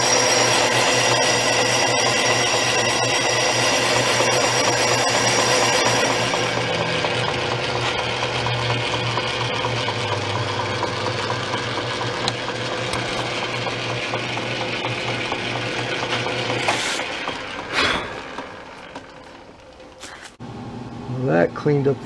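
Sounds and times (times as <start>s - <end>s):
metal lathe motor hum: 0.0s - 20.9s.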